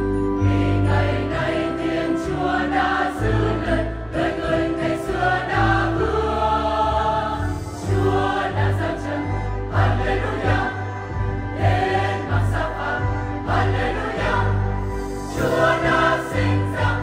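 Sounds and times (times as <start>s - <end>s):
instrumental accompaniment: 0.0s - 17.0s
choir singing a hymn: 0.4s - 17.0s.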